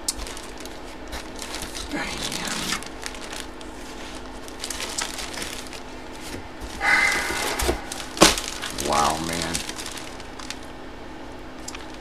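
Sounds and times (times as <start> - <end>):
plastic bag crinkling: 0.0 - 6.8, 7.9 - 10.7, 11.6 - 12.0.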